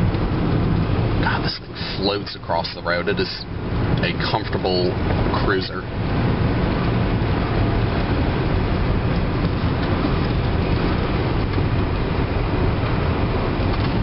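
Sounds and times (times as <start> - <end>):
car engine hum: 0.0 - 14.0
road and tyre noise: 0.0 - 14.0.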